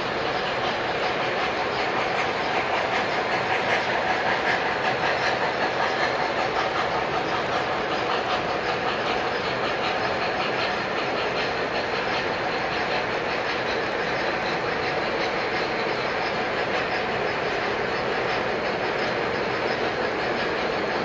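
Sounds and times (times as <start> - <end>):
model trains rolling: 0.0 - 21.0.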